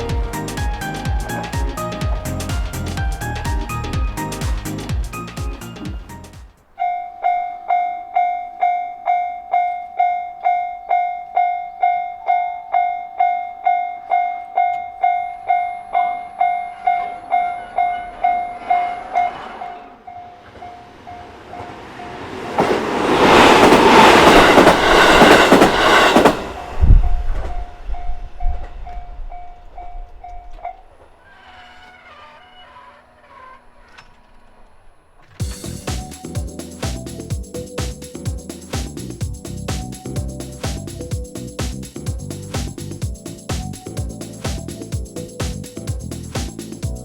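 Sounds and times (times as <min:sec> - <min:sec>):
electric train passing: 0:00.0 - 0:47.0.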